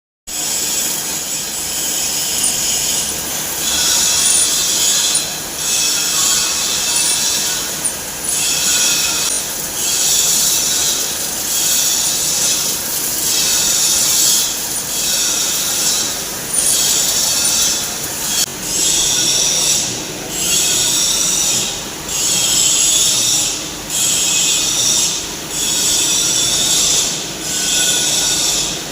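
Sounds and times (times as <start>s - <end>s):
lathe cutting metal hiss: 0.3s - 28.9s.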